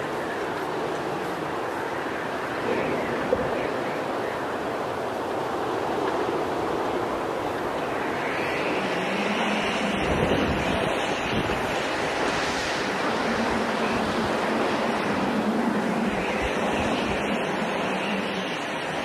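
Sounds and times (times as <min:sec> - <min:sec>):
strong storm wind rushing: 0:00.0 - 0:19.0
wind buffeting microphone: 0:00.0 - 0:19.0.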